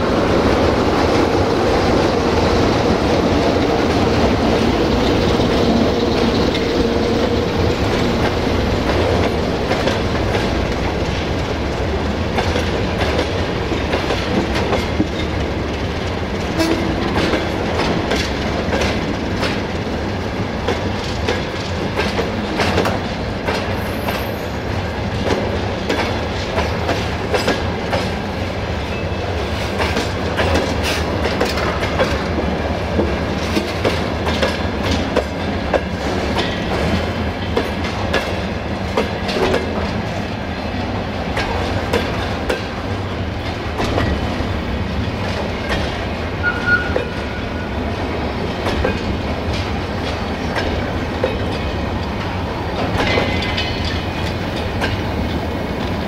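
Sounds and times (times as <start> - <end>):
train rumble: 0.0 - 56.0
train wheels clattering over rail joints: 0.4 - 56.0.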